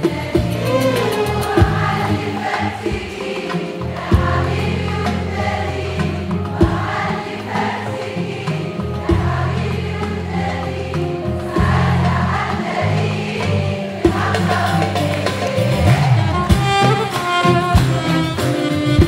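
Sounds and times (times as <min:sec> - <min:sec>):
audience singing in chorus: 0:00.0 - 0:17.2
live orchestra: 0:00.0 - 0:19.0.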